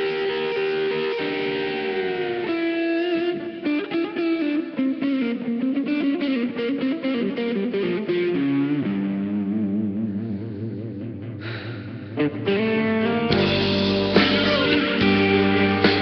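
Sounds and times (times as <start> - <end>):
electric guitar with effects: 0.0 - 16.0.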